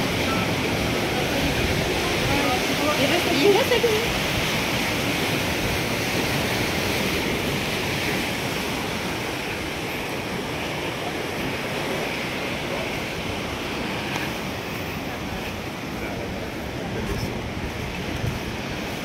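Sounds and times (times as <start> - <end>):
ocean surf breaking on rocks: 0.0 - 19.0.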